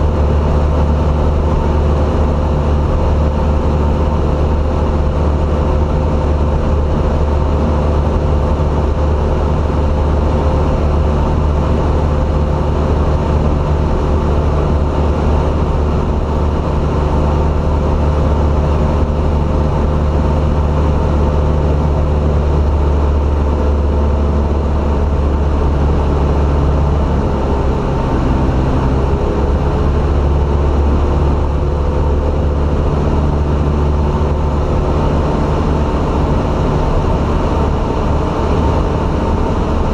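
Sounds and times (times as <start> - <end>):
light plane engine drone: 0.0 - 39.9
wind rush: 0.0 - 39.9.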